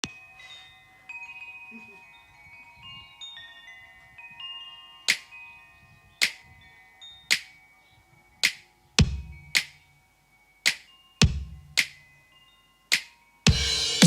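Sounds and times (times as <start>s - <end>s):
chime-like bell notes: 0.0s - 8.4s, 9.2s - 14.0s.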